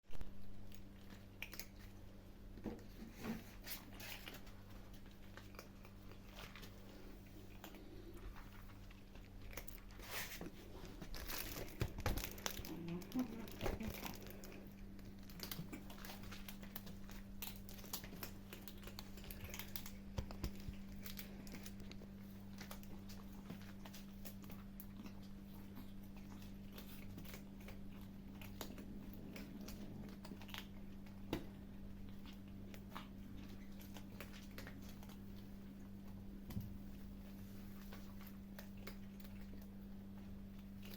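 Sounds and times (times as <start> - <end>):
kittens chewing and crunching: 0.1 - 40.9
steady low hum: 0.1 - 40.9.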